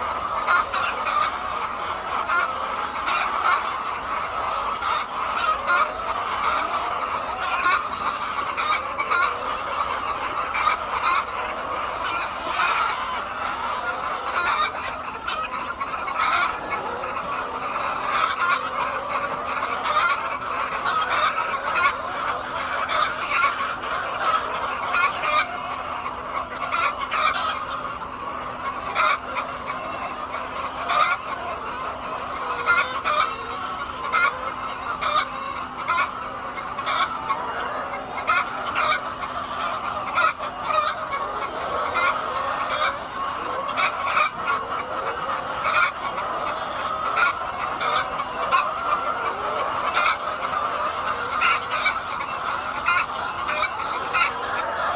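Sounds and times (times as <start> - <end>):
hens clucking: 0.0 - 54.9.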